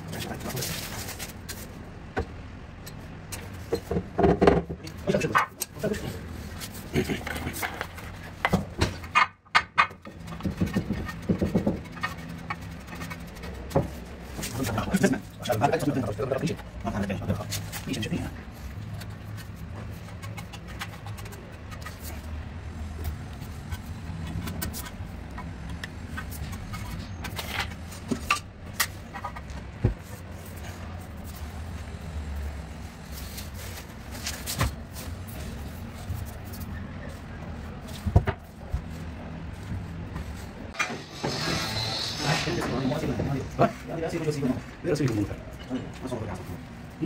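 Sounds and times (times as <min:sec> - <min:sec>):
low background hum: 0:00.0 - 0:47.0.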